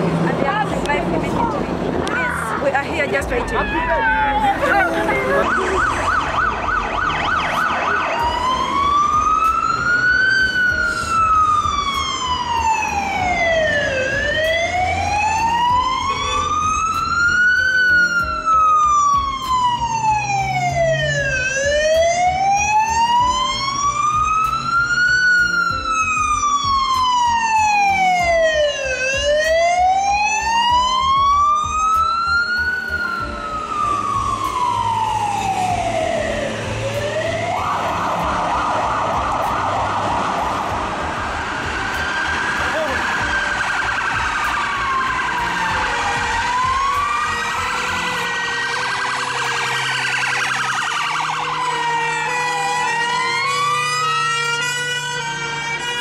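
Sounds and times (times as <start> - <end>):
emergency vehicle siren wailing: 0.0 - 56.0.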